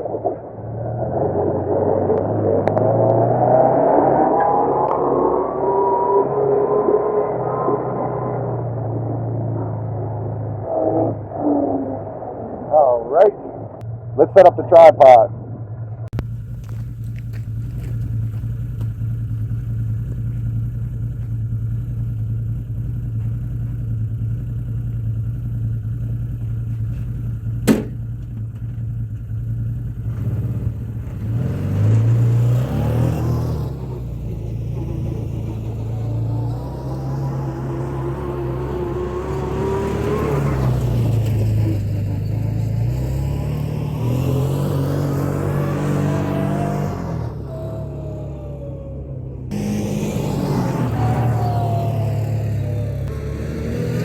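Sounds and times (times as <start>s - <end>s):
engine running and revving: 0.0s - 54.0s.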